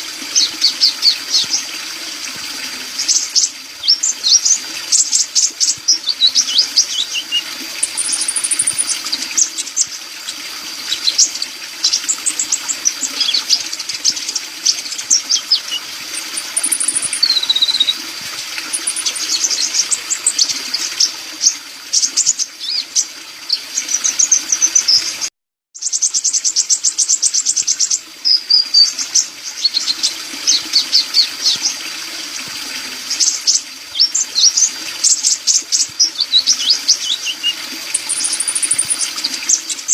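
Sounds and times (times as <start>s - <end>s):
bird twittering song: 3.0s - 10.0s, 10.9s - 18.0s, 18.7s - 25.2s, 25.8s - 31.7s, 33.1s - 39.9s.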